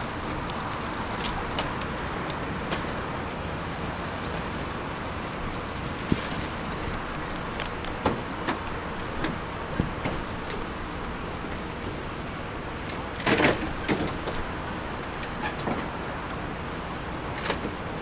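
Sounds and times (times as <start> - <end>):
background hum: 0.0 - 18.0
crickets chirping: 0.0 - 18.0.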